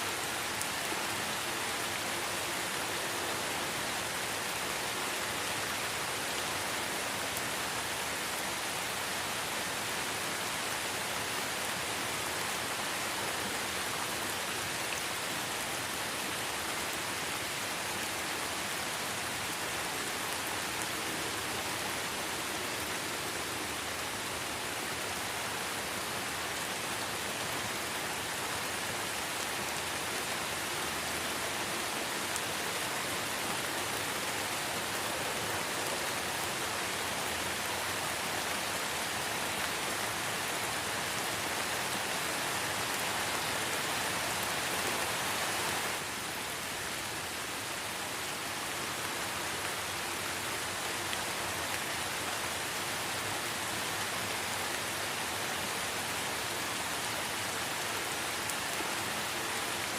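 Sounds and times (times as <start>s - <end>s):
light rain on leaves: 0.0s - 59.9s.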